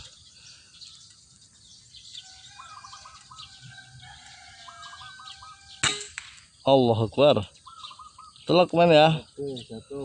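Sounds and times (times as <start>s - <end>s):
thin high bird chirps: 0.0s - 10.0s.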